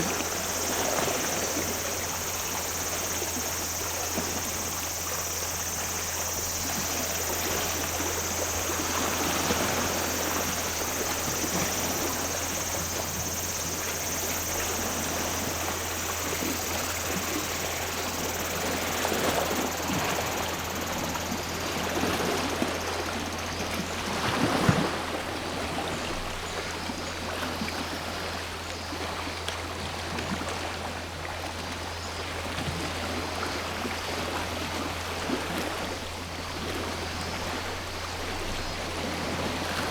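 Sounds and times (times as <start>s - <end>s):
cicadas droning: 0.0s - 39.9s
small waves washing on shore: 0.0s - 39.9s.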